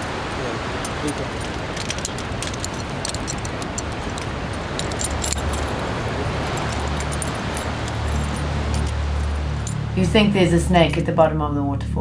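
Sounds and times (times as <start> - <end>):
light metallic clinking: 0.0 - 10.2
waterfall roaring: 0.0 - 11.2
low steady hum: 0.0 - 12.0.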